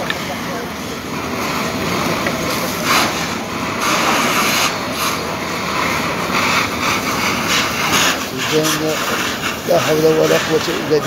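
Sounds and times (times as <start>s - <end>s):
fire hose hissing: 0.0s - 11.0s.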